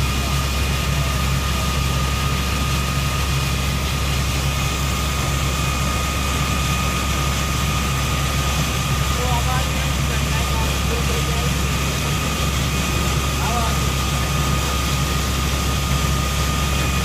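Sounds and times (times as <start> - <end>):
heavy engine humming: 0.0 - 17.0
thin steady whine: 0.0 - 17.0
water gushing from a pipe: 0.0 - 17.0.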